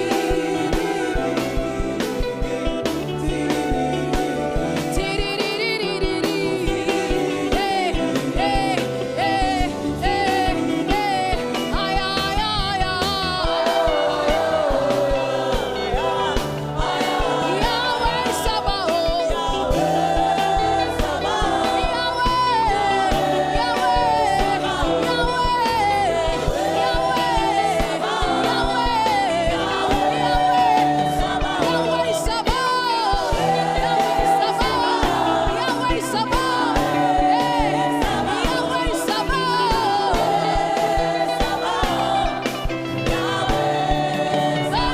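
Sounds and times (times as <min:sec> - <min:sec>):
people singing gospel: 0:00.0 - 0:44.9.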